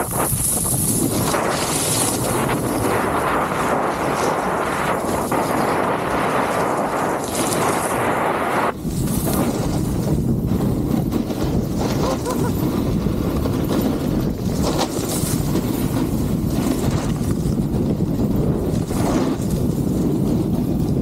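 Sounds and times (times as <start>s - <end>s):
snowboard edges scraping snow: 0.0s - 21.0s
wind on camera microphone: 0.0s - 21.0s.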